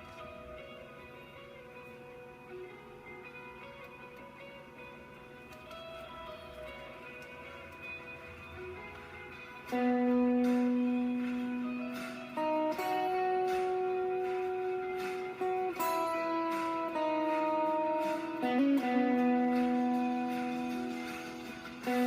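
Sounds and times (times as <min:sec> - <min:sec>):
electric guitar sustained notes: 0:00.0 - 0:22.0.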